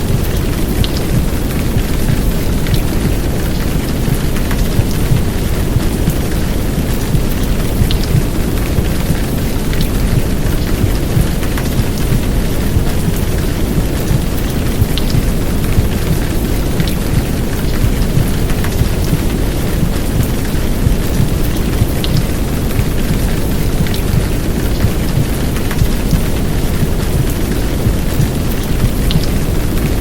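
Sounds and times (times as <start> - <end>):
heavy rain: 0.0 - 30.0
muffled womb-sound rumble: 0.0 - 30.0.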